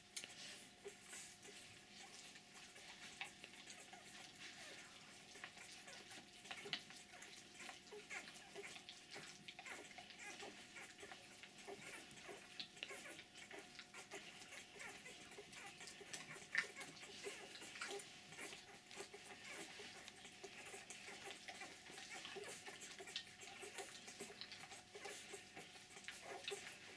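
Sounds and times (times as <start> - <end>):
puppies suckling: 0.0 - 26.9.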